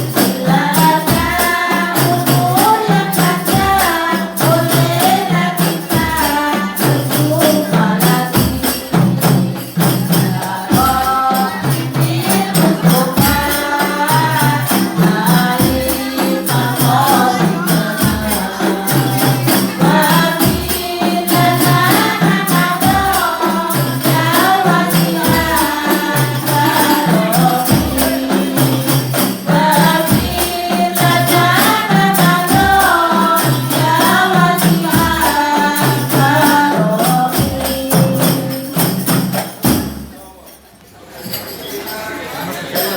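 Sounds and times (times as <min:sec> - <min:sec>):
voices singing: 0:00.0 - 0:40.2
frame drums: 0:00.0 - 0:41.6
tambourine jingles: 0:00.0 - 0:42.9.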